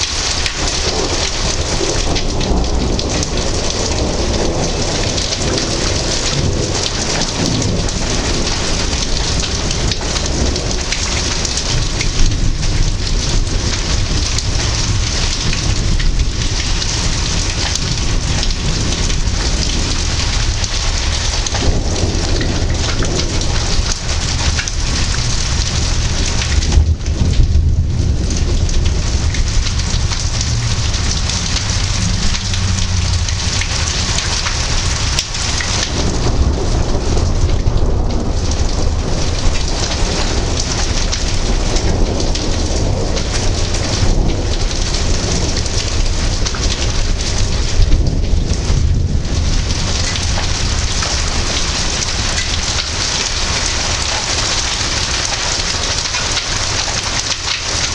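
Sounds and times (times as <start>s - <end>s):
heavy rain pouring: 0.0s - 57.9s
low rolling thunder: 0.0s - 57.9s.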